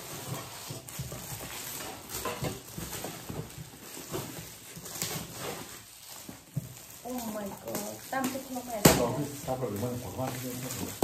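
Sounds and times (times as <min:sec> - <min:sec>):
foil wrap tearing and crinkling: 0:00.0 - 0:11.0.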